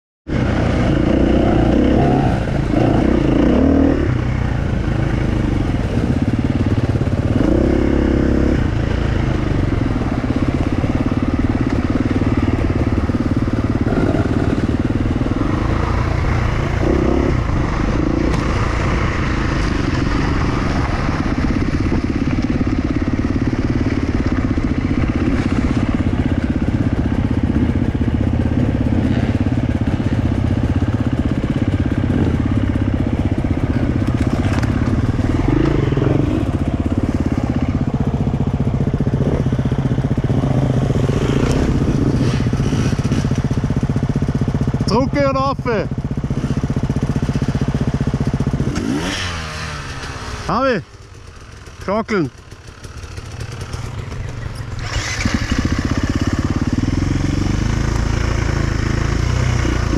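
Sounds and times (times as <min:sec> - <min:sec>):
dirt bike engine revving: 0:00.3 - 0:59.9.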